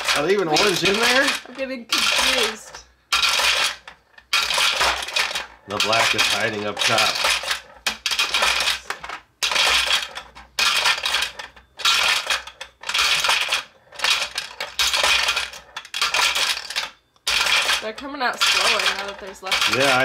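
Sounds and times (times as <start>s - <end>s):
glass marbles rattling in plastic: 0.0s - 20.0s.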